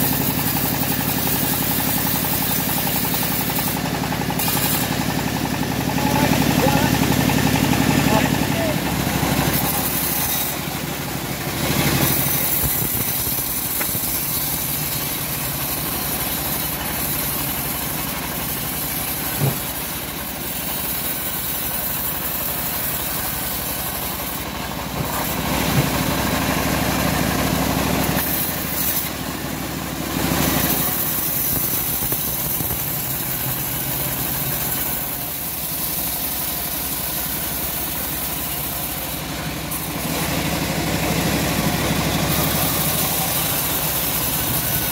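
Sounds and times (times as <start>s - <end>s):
band sawmill engine running: 0.0s - 44.9s.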